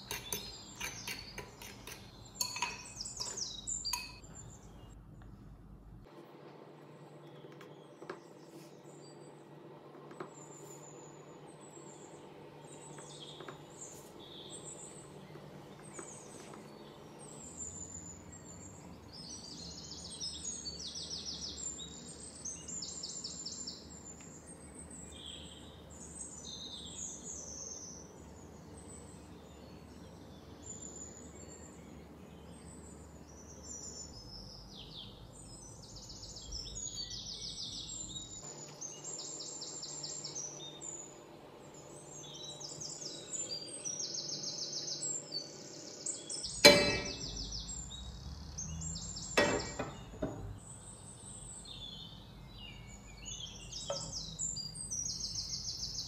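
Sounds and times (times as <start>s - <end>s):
small birds chirping and trilling: 0.0s - 5.0s, 7.2s - 56.0s.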